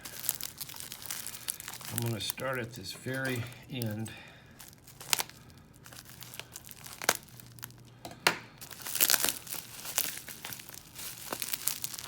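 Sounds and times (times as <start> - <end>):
wrapping crinkling and tearing: 0.0 - 12.0.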